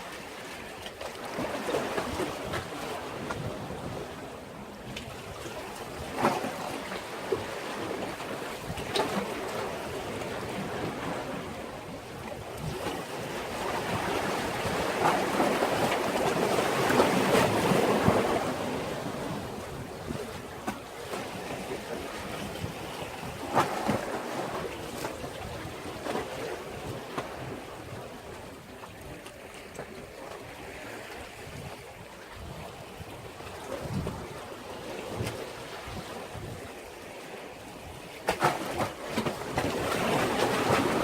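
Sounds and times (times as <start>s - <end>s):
sea waves washing on breakwater: 0.0s - 41.0s.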